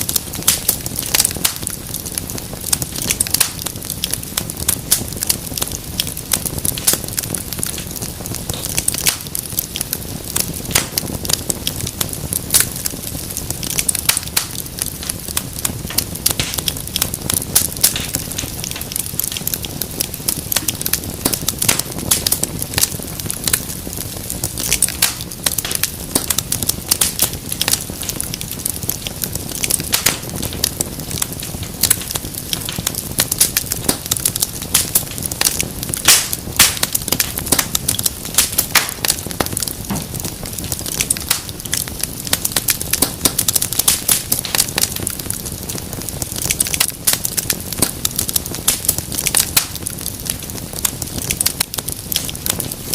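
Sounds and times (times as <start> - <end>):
fireplace fire crackling: 0.0 - 52.9.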